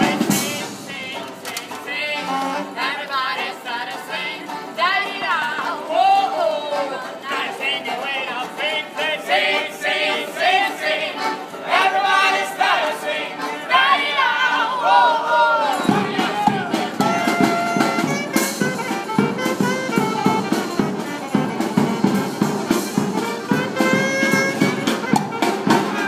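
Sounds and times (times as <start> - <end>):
accordion: 0.0 - 26.0
banjo: 0.0 - 26.0
voices singing together: 0.0 - 26.0.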